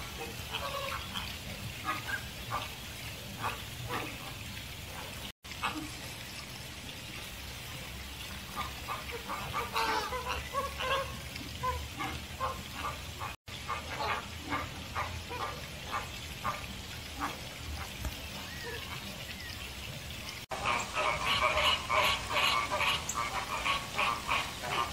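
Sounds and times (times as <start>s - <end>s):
flamingos honking: 0.0s - 6.0s, 8.4s - 19.2s, 20.5s - 24.9s.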